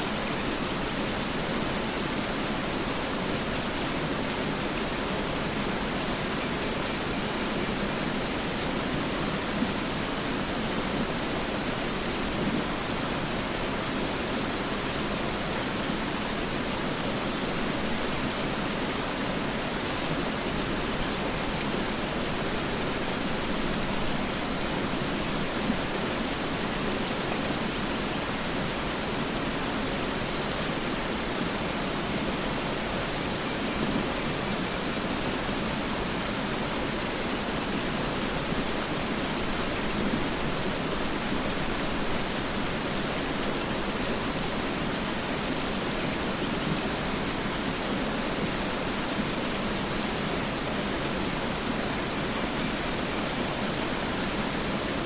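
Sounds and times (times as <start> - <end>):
river rushing over rocks: 0.0 - 55.0.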